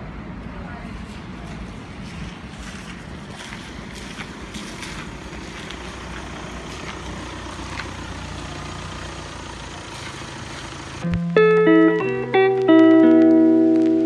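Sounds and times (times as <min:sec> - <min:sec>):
vehicle engine and road rumble: 0:00.0 - 0:11.4.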